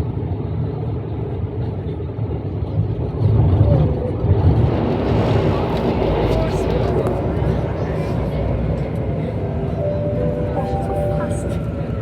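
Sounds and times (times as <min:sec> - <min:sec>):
metro train rumble: 0:00.5 - 0:12.0.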